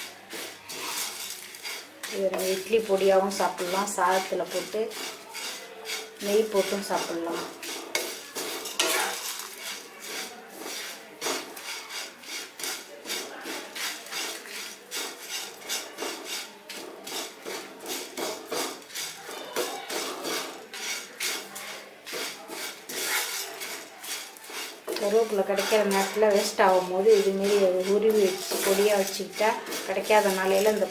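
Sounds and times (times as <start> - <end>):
leaves rustling in pan: 0.0 - 30.9
spatula scraping pan: 0.0 - 30.9.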